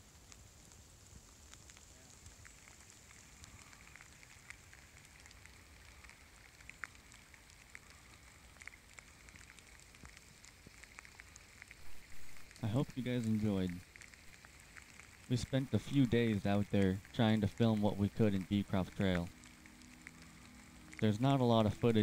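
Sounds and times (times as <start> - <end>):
light clicks and crackles: 0.0 - 22.0
low outdoor hiss: 0.0 - 22.0.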